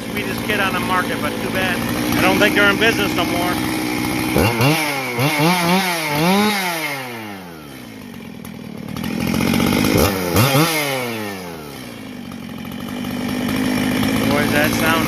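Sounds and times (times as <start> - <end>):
chainsaw revving and idling: 0.0 - 15.0.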